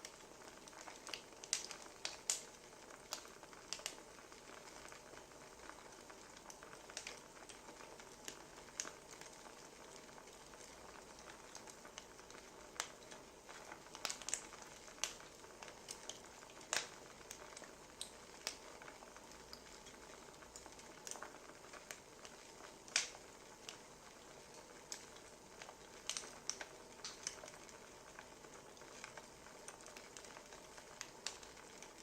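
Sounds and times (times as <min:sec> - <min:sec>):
soft steady fire hiss: 0:00.0 - 0:32.0
wood fire popping and snapping: 0:00.0 - 0:32.0.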